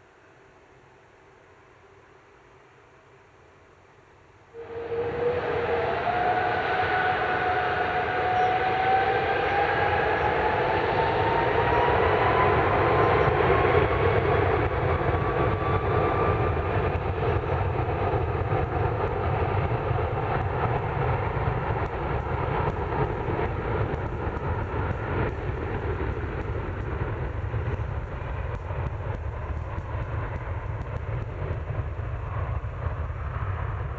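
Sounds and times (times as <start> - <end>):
jet engines roaring with whine: 4.6 - 33.9.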